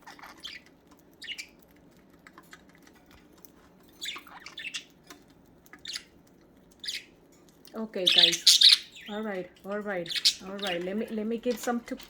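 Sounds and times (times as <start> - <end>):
beaks pecking at seeds: 0.0 - 12.0.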